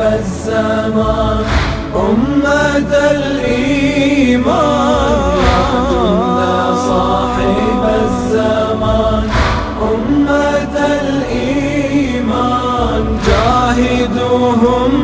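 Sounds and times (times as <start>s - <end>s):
voices chanting in unison: 0.0s - 15.0s.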